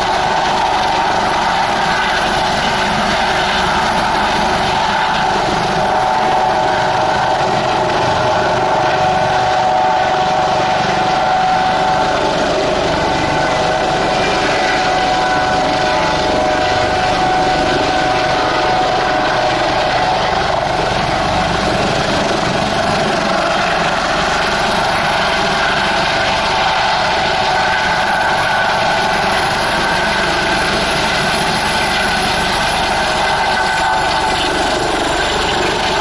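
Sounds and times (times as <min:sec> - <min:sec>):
helicopter hovering with loud whine: 0:00.0 - 0:36.0.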